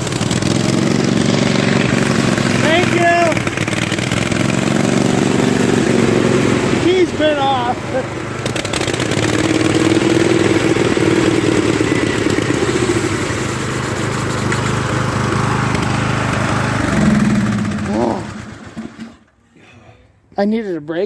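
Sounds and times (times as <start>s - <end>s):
riding lawn mower engine running: 0.0s - 19.4s.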